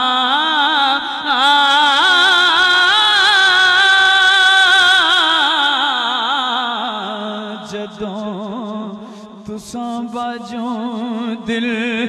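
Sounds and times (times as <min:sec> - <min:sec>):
man chanting with vibrato: 0:00.0 - 0:12.0.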